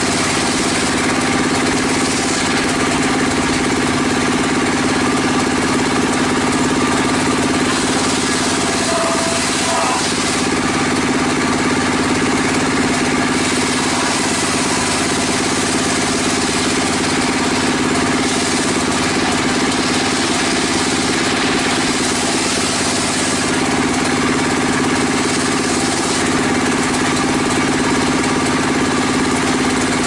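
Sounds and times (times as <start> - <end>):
circular saw cutting timber: 0.0 - 30.0.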